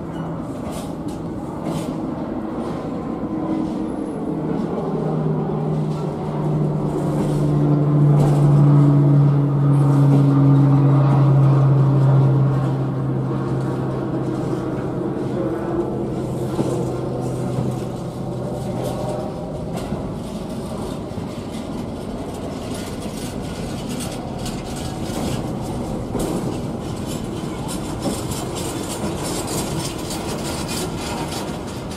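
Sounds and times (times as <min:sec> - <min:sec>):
diesel engine hum: 0:00.0 - 0:31.9
train wheels clattering over rails: 0:00.1 - 0:31.9.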